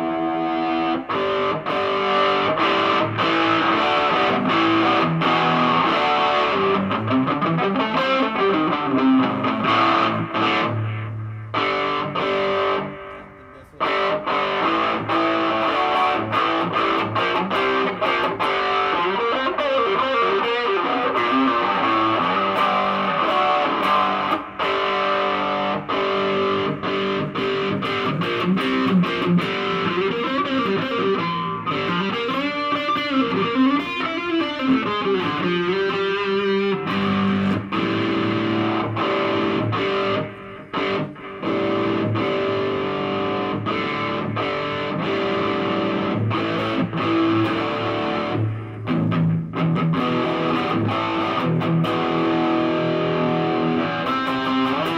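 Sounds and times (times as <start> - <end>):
distorted electric guitar: 0.0 - 54.9.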